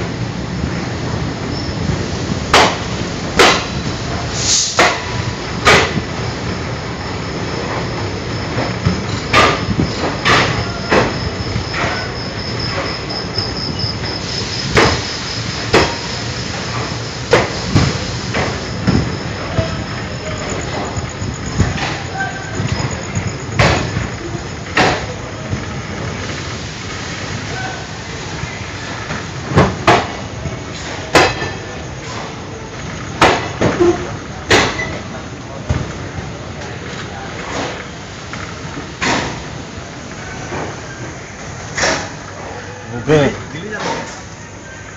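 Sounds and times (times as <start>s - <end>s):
train wheels rumbling: 0.0s - 44.9s
wheels clacking over rail joints: 1.5s - 44.3s.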